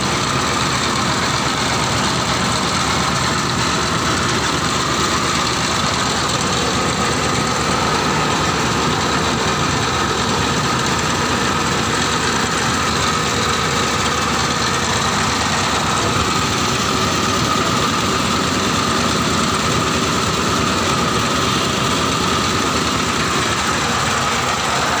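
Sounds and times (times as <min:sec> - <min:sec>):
grinding mill running: 0:00.0 - 0:25.0.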